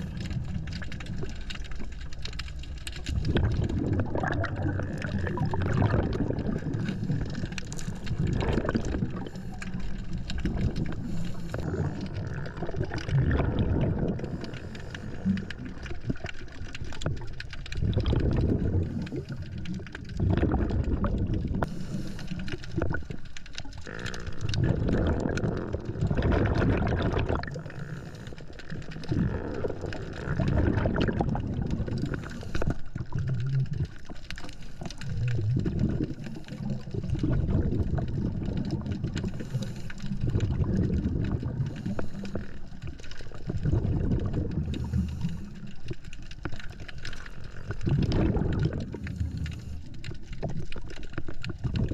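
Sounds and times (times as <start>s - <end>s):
regulator bubbles gurgling: 0.0s - 51.9s.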